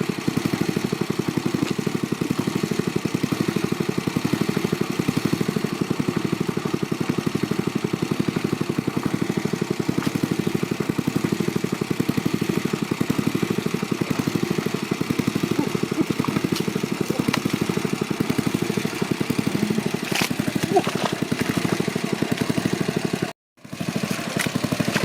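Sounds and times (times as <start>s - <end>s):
small engine running steadily: 0.0s - 25.0s.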